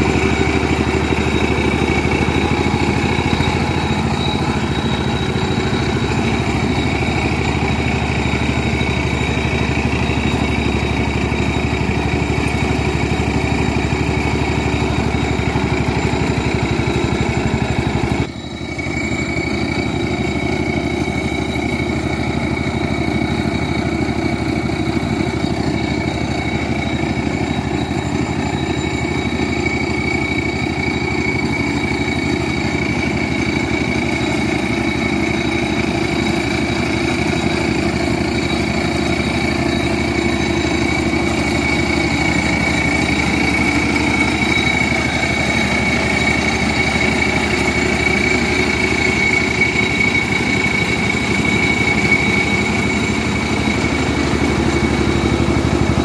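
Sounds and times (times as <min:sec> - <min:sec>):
mini tractor engine running: 0:00.0 - 0:56.0
mower high whine: 0:00.0 - 0:56.0.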